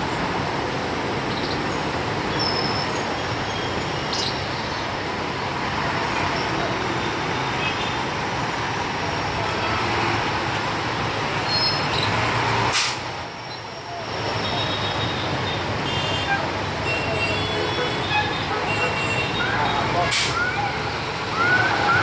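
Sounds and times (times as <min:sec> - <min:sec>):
outdoor traffic noise: 0:00.0 - 0:22.0.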